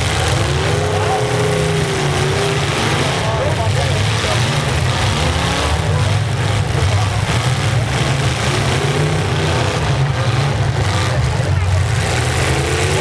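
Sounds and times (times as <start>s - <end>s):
truck engines revving: 0.0s - 13.0s
trucks ramming each other: 0.0s - 13.0s.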